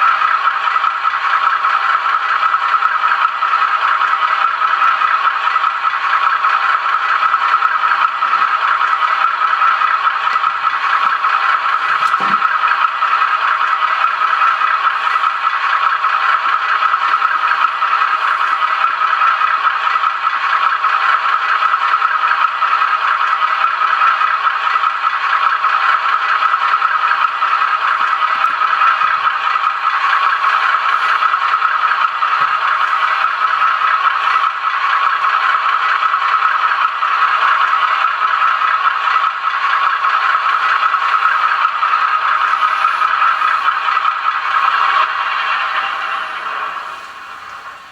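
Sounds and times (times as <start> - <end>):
model locomotive rattling: 0.0 - 47.9.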